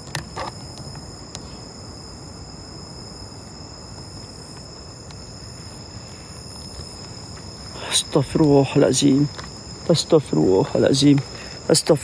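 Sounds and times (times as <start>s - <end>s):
low background hiss: 0.0s - 12.0s
night insects chorus: 0.0s - 12.0s.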